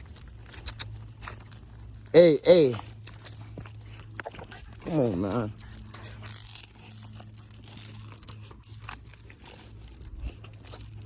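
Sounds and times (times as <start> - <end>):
metal chain leash jingling: 0.0 - 11.0.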